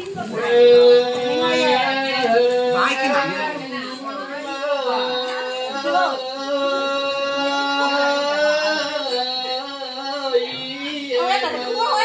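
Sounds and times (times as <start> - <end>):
person singing long notes: 0.1 - 12.0.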